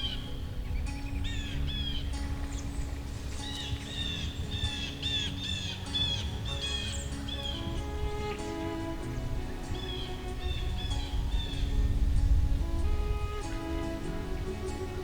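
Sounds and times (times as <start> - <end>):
soft background music: 0.0 - 15.0
songbird chirping: 0.0 - 15.0.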